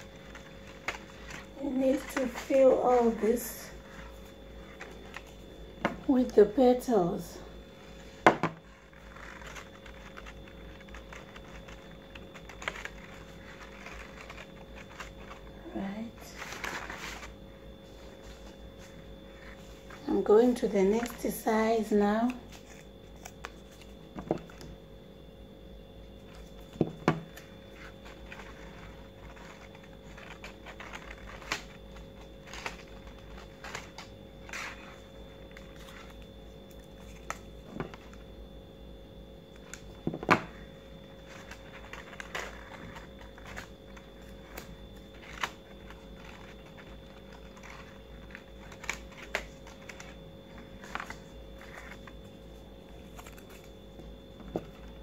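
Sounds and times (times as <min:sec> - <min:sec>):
paper rustling: 0:00.0 - 0:06.3, 0:07.9 - 0:24.7, 0:26.2 - 0:38.3, 0:39.5 - 0:55.0
faint steady hum: 0:00.0 - 0:55.0.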